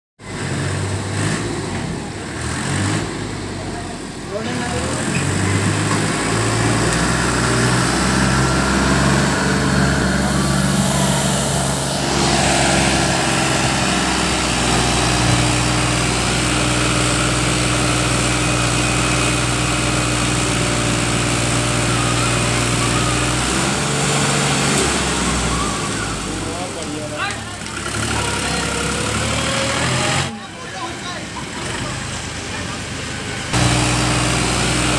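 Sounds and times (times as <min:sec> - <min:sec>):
tractor diesel engine straining: 0:00.2 - 0:34.9.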